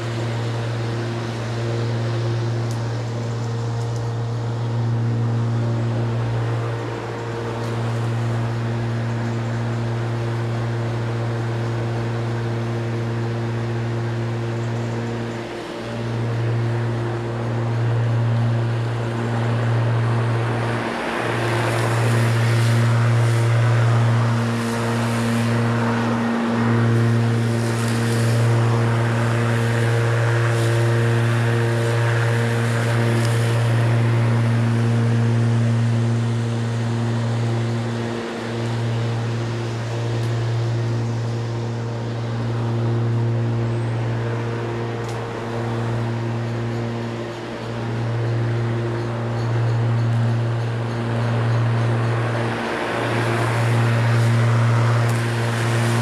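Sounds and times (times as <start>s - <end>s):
electric lawnmower humming: 0.0s - 56.0s
rushing noise: 0.0s - 56.0s.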